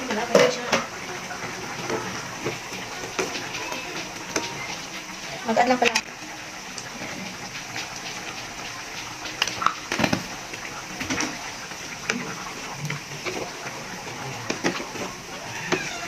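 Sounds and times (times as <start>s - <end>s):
stew bubbling: 0.0s - 16.0s.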